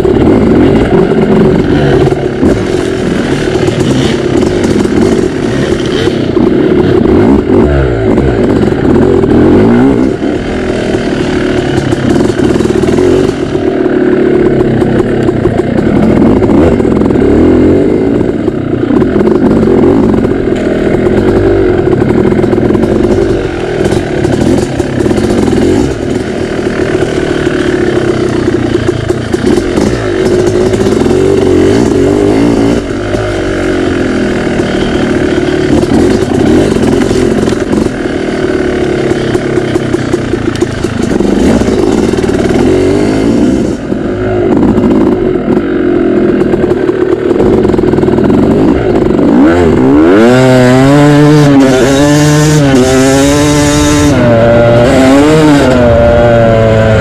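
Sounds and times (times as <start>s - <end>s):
bike rattling: 0.0s - 57.0s
dirt bike engine revving: 0.0s - 57.0s.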